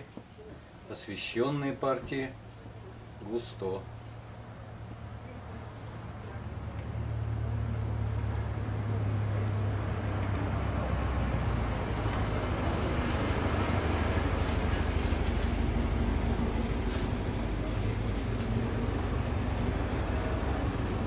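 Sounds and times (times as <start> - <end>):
low mechanical hum and rumble: 0.0 - 21.0.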